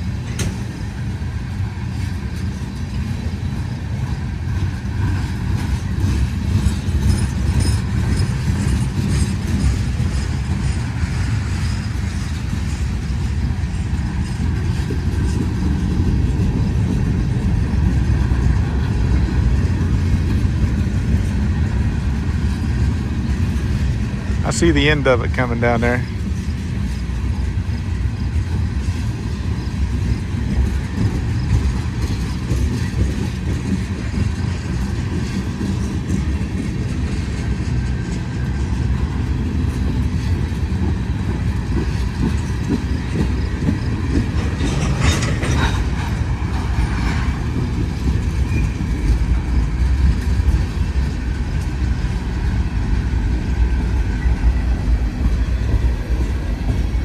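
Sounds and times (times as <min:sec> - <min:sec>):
train low rumble: 0:00.0 - 0:57.0
train wheels clacking on rails: 0:00.0 - 0:57.0.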